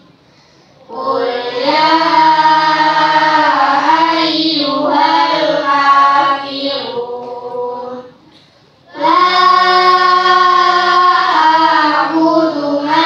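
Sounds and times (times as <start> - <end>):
children singing in unison: 0.9 - 8.2, 8.9 - 13.0.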